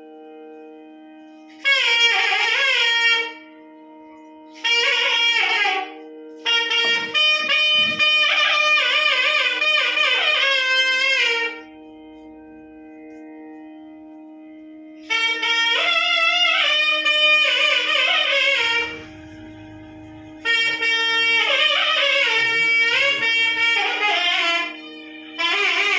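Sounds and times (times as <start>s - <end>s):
steady drone: 0.0s - 25.9s
wind instrument melody: 0.0s - 25.9s.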